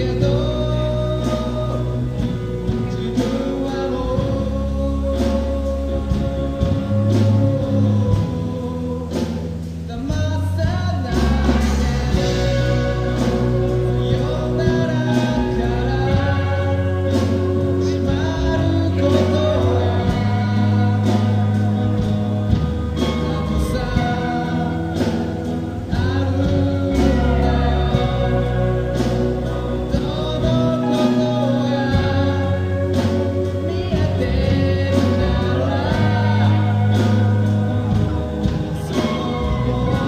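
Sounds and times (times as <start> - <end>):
band playing: 0.0 - 40.0
lead vocal singing: 0.0 - 40.0.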